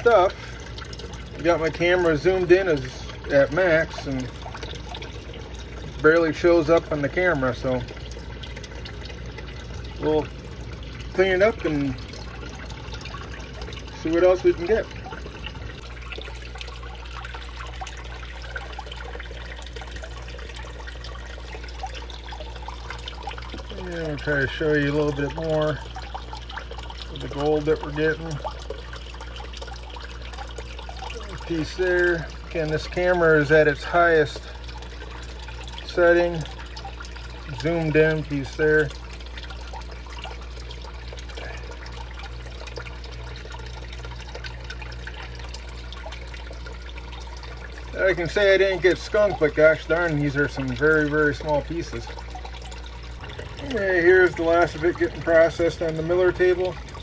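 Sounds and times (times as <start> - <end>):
steady low hum: 0.0 - 57.0
water trickling: 0.0 - 57.0.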